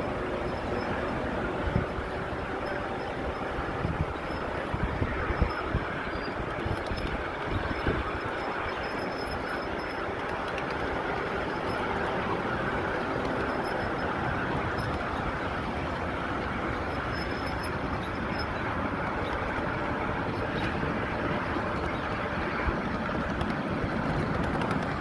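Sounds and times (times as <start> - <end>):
miniature train wheels on rails: 0.0 - 25.0.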